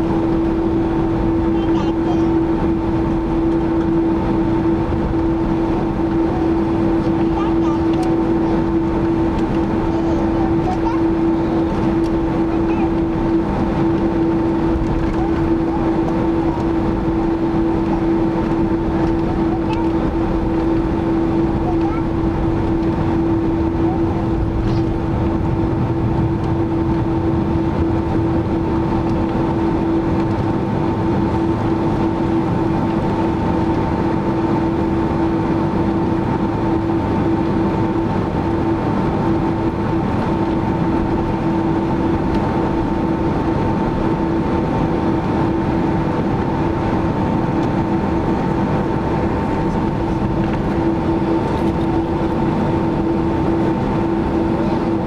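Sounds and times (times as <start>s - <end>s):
jet cabin drone: 0.0s - 55.0s
low hum: 0.0s - 55.0s.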